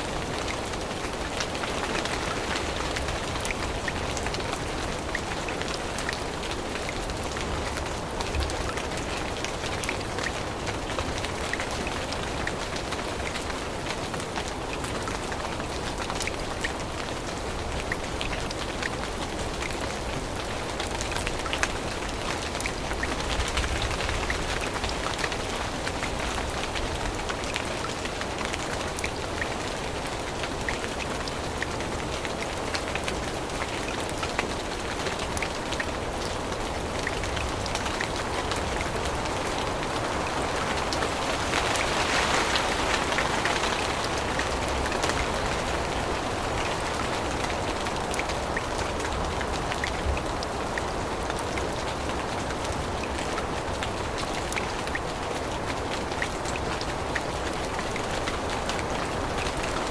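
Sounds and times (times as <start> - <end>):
rain dripping on leaves: 0.0 - 59.9.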